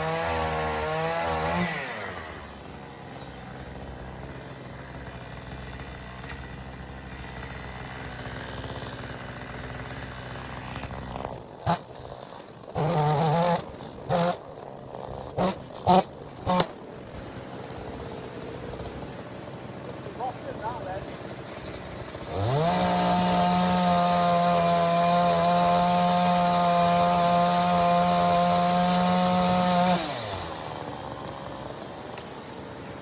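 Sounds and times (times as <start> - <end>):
chainsaw revving and idling: 0.0 - 33.0.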